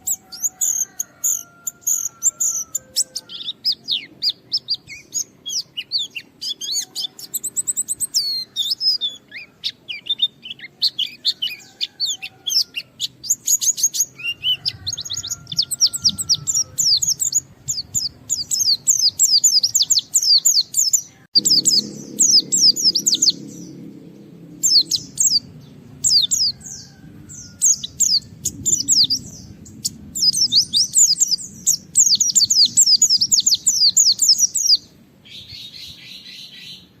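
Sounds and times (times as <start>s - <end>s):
bird singing high sharp chirps: 0.0s - 36.9s.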